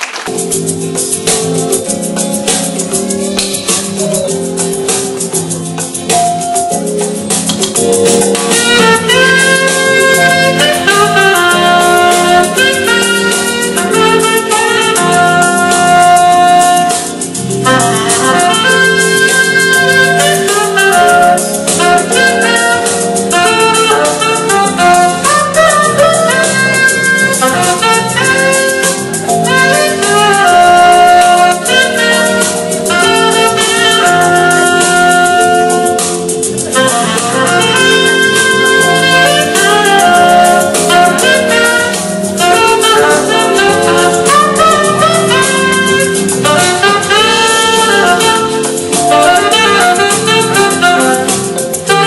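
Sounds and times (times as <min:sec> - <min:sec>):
saxophone melody: 0:00.0 - 0:52.0
accompaniment with bass line: 0:00.3 - 0:52.0.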